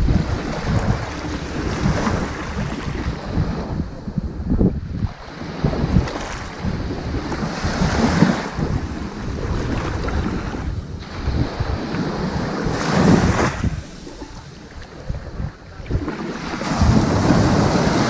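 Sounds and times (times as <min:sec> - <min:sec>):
ocean waves washing onto beach: 0:00.0 - 0:18.0.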